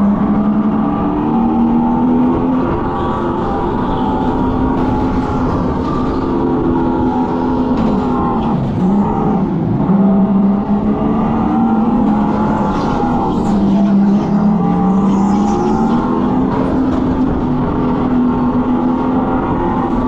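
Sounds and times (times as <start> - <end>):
simulated engine drone: 0.0 - 20.0.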